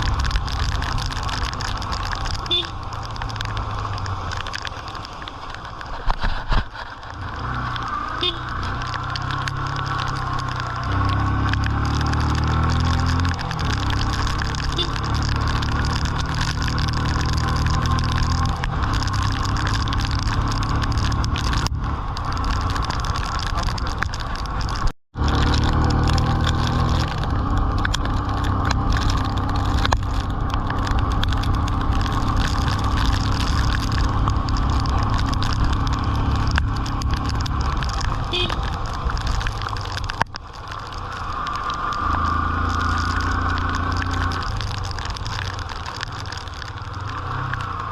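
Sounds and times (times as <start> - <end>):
wind and rain hiss: 0.0 - 47.9
motorcycle engine running: 6.4 - 45.0.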